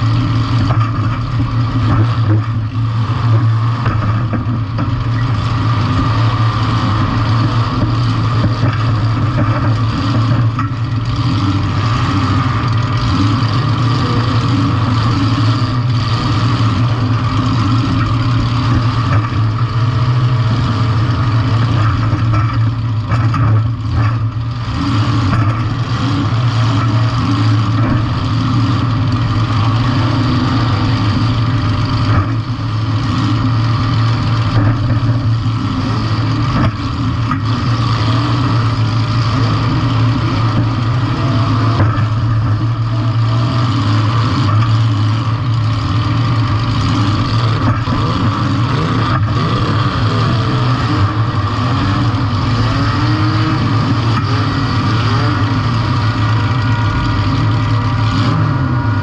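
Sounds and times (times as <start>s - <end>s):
car engine running loud: 0.0s - 59.0s.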